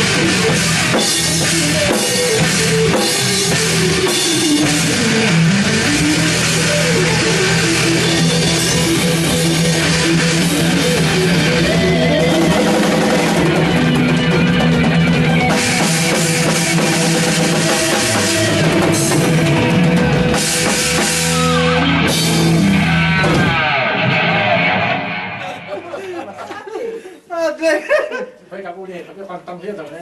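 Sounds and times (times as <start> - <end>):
electric bass: 0.0 - 25.7
drum kit: 0.0 - 26.4
electric guitars: 0.0 - 26.7.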